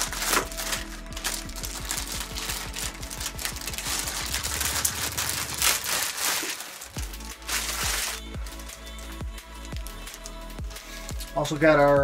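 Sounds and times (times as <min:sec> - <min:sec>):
plastic bag crinkling: 0:00.0 - 0:10.4
background music: 0:00.0 - 0:12.0.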